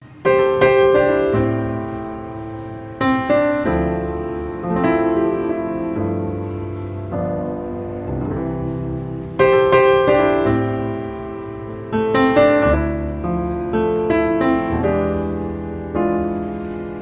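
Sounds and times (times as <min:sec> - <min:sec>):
slow solo piano chords: 0:00.0 - 0:17.0.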